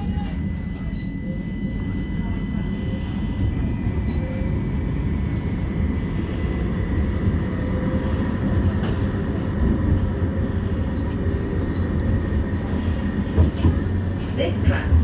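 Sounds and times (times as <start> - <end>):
tram wheels rumbling on track: 0.0 - 15.0.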